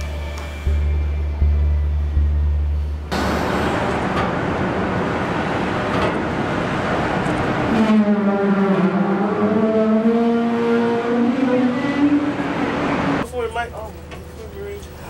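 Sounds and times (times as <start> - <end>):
bridge machinery rumbling: 0.0 - 15.0
droning whine: 0.0 - 15.0.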